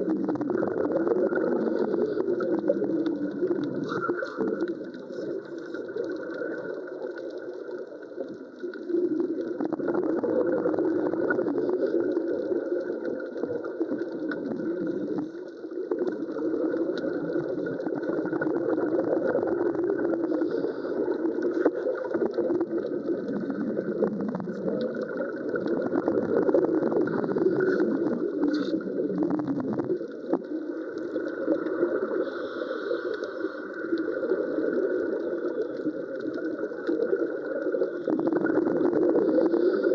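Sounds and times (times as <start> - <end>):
underwater welding arc crackling: 0.0 - 39.9.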